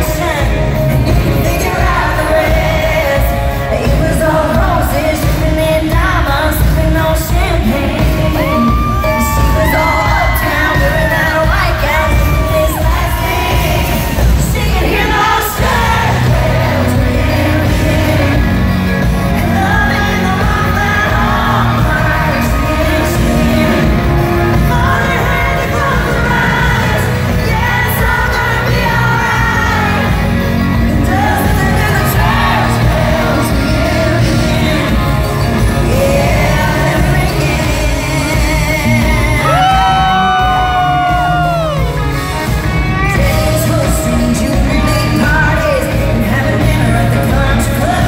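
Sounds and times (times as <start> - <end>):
bass guitar: 0.0 - 48.0
electric guitar: 0.0 - 48.0
woman singing: 0.0 - 48.0.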